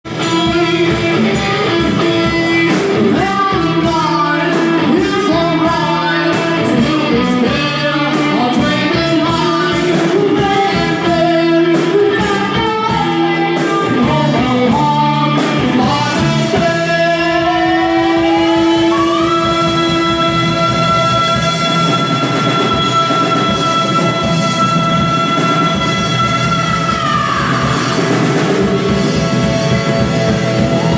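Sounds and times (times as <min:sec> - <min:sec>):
electric guitar: 0:00.0 - 0:30.9
rock band music: 0:00.0 - 0:30.9
person singing: 0:00.1 - 0:30.9.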